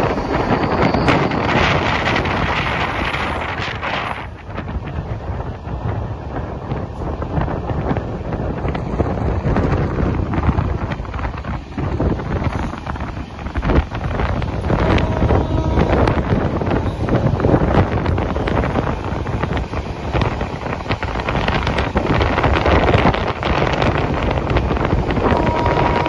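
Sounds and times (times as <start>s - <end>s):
train coach rumbling on track: 0.0s - 26.0s
wind buffeting microphone: 0.0s - 26.0s.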